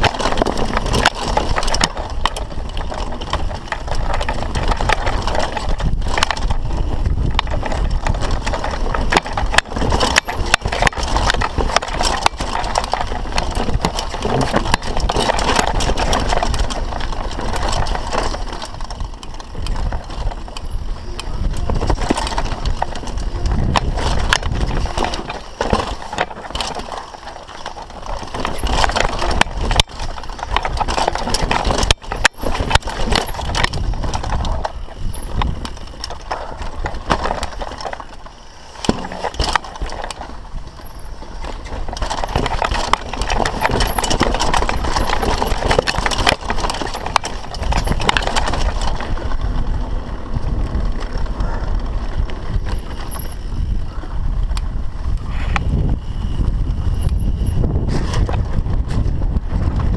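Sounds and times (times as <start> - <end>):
bike chain slap and frame rattle: 0.0 - 59.9
bike knocking over bumps: 0.0 - 59.9
tyre noise: 0.0 - 59.9.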